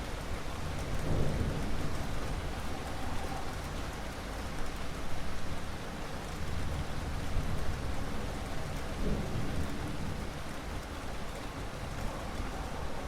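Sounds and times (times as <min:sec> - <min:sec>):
heavy rain: 0:00.0 - 0:13.0
low rumble of thunder: 0:00.6 - 0:04.4, 0:06.3 - 0:13.0.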